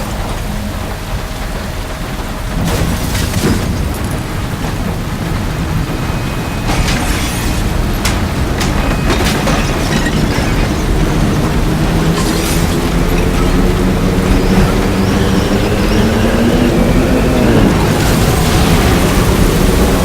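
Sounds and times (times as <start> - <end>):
tornado wind rumbling: 0.0 - 20.0
debris crashing: 2.3 - 20.0.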